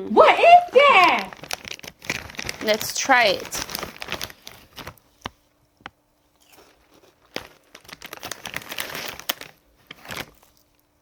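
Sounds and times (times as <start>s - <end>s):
plastic wrapper crinkling and tearing: 0.7s - 5.4s, 6.5s - 10.8s.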